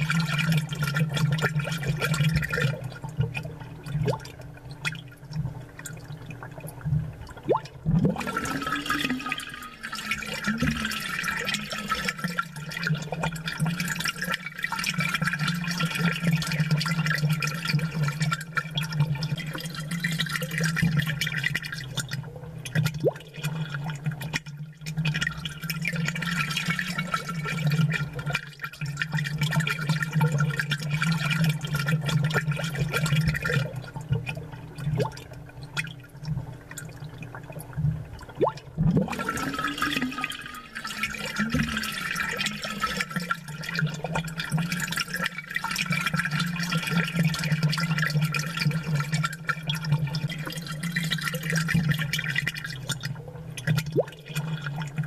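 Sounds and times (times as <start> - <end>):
aquarium water bubbling: 0.0 - 55.0
low pump hum: 0.0 - 55.0.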